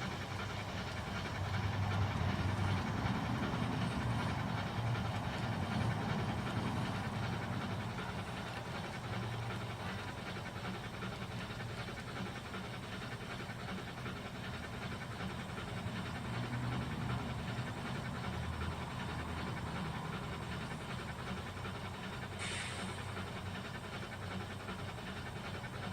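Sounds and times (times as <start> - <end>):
model locomotive chuffing: 0.0 - 25.9
motor and gears humming: 0.0 - 25.9.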